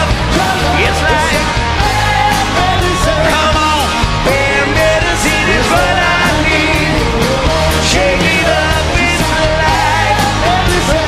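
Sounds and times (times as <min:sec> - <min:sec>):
live rock band playing: 0:00.0 - 0:11.0
person singing lead vocal: 0:00.0 - 0:11.0.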